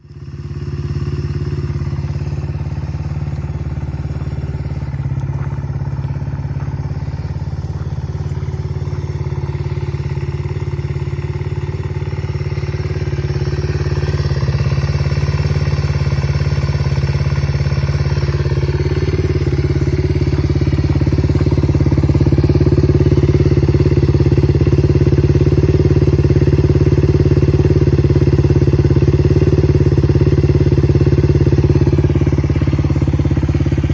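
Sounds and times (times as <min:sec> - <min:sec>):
motorcycle engine running steadily: 0:00.0 - 0:33.9.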